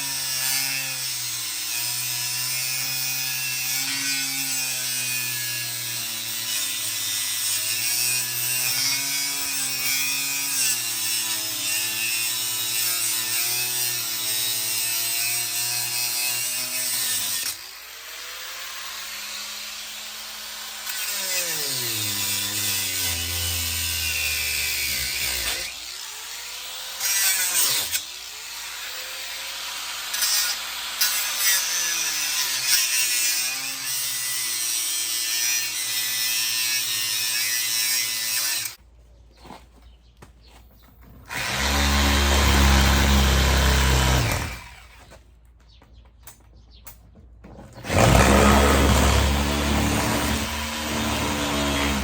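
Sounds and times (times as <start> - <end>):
power tool motor: 0.0 - 38.8, 41.2 - 45.2, 47.7 - 52.0.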